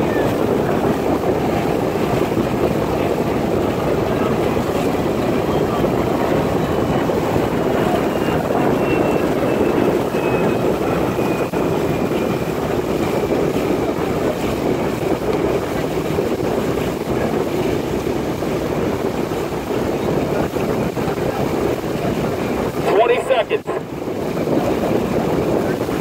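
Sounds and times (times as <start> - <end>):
outboard motor running: 0.0 - 26.0
wind on microphone: 0.0 - 26.0.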